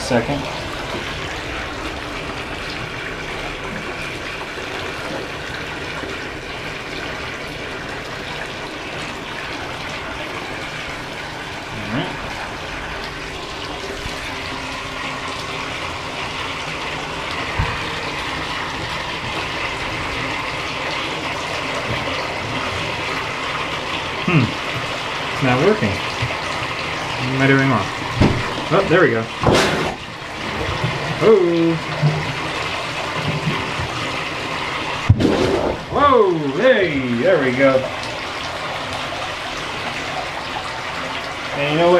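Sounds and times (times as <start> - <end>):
tap running into full tub: 0.0 - 41.9.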